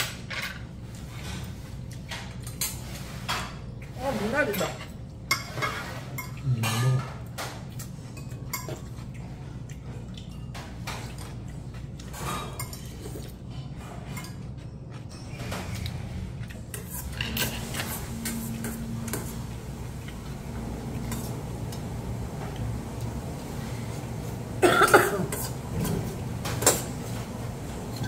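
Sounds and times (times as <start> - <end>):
steady low hum: 4.7 - 28.0.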